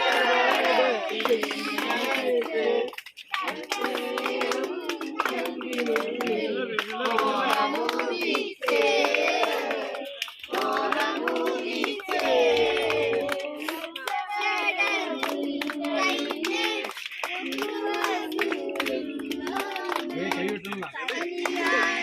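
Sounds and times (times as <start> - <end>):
group singing unaccompanied: 0.0 - 22.0
people clapping hands: 0.0 - 22.0.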